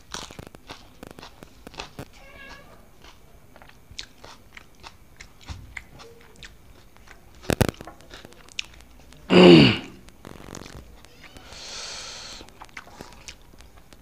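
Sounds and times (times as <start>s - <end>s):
man chewing: 0.0s - 2.1s, 3.0s - 14.0s.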